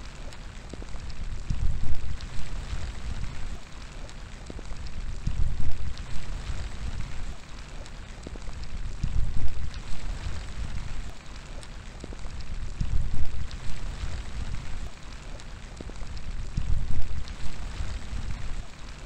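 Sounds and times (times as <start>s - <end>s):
steady rain falling: 0.0s - 19.0s
wind gusts: 0.0s - 19.0s.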